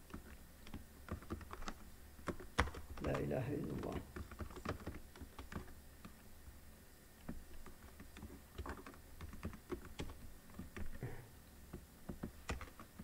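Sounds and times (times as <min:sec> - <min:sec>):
faint keyboard typing: 0:00.0 - 0:06.3, 0:07.2 - 0:13.0.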